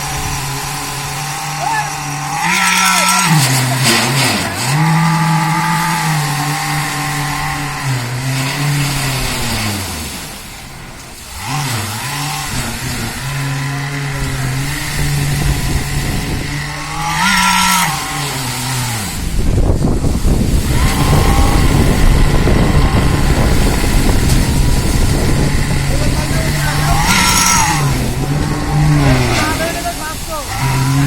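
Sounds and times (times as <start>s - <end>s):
heavy engine running: 0.0s - 31.0s
loud rumbling: 0.0s - 31.0s.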